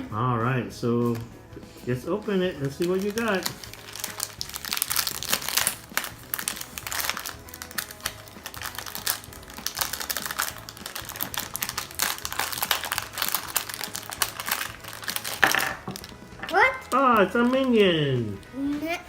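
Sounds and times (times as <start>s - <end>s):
plastic wrapper tearing and crinkling: 2.5s - 18.4s.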